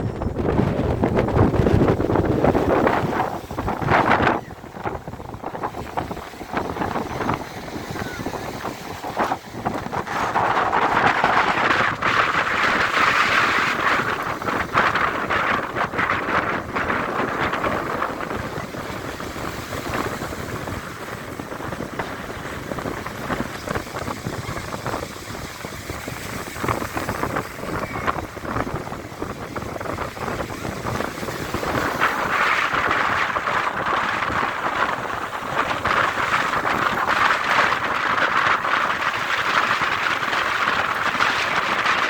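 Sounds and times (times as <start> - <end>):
waves breaking on shore: 0.0 - 42.0
wind buffeting microphone: 0.0 - 42.0.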